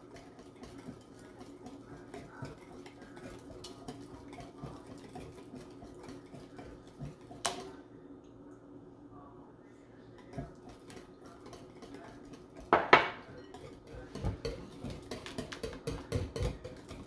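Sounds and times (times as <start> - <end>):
utensil and eggs tapping bowl: 0.0 - 7.8, 10.2 - 17.0.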